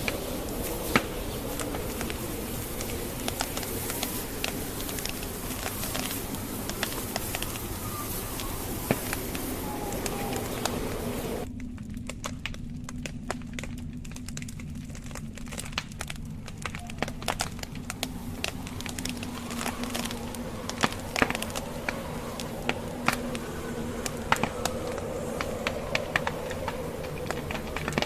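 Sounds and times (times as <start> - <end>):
low drone: 0.0 - 28.0
wood fire crackling and popping: 0.0 - 28.0.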